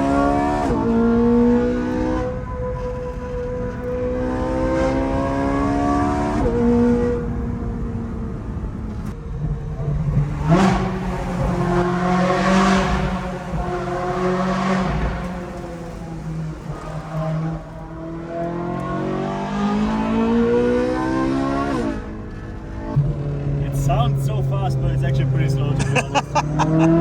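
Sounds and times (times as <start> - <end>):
sports car engine revving: 0.0 - 27.0.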